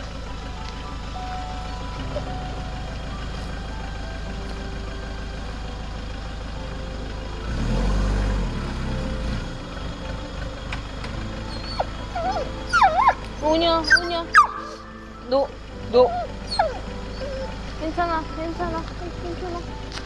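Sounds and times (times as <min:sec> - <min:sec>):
van engine droning and revving: 0:00.0 - 0:20.0.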